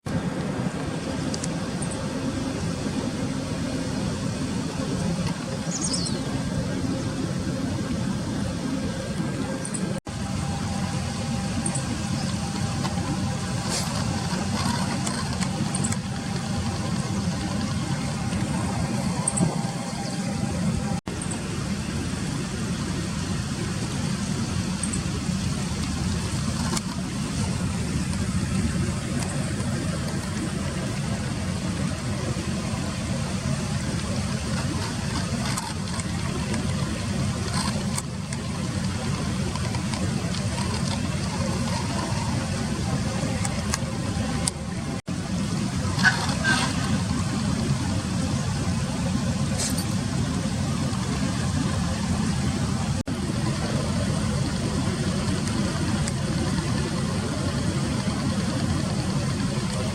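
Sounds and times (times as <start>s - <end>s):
low engine-like rumble: 0.0s - 59.9s.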